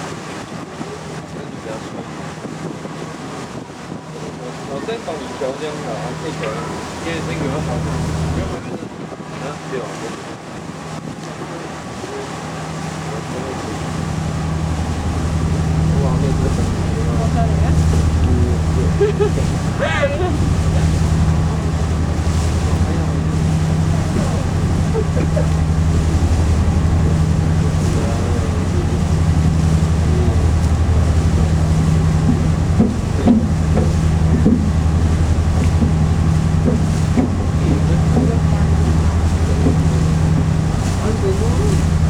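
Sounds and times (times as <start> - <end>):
boat engine drone: 0.0 - 42.0
faint passenger voices: 0.4 - 10.4, 11.2 - 42.0.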